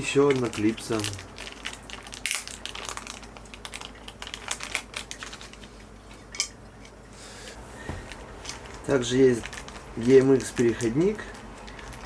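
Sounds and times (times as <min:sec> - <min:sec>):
plastic clicks and packaging crinkles: 0:00.0 - 0:12.0.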